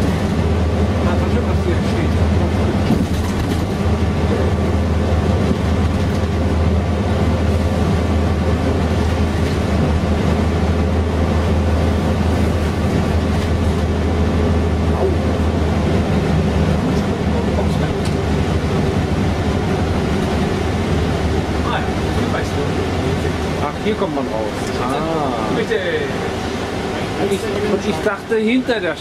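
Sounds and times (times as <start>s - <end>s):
bus diesel engine droning: 0.0s - 29.0s
road noise: 0.0s - 29.0s.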